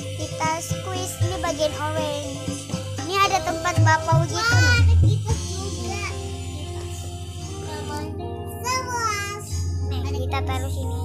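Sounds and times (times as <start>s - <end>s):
high singing voice: 0.0s - 9.3s
background music with bass line: 0.0s - 11.0s.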